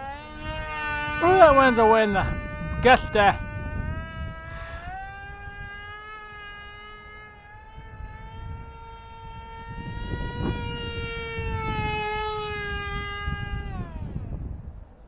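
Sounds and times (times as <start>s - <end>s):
electric motor and propeller whine: 0.0s - 15.0s
gusty wind on microphone: 0.0s - 15.0s.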